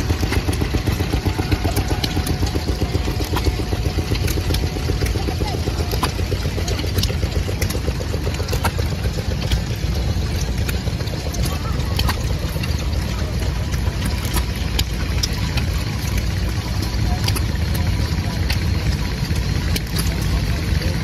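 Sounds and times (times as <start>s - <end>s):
engine clicks and knocks: 0.0s - 21.0s
stationary engines rumbling: 0.0s - 21.0s.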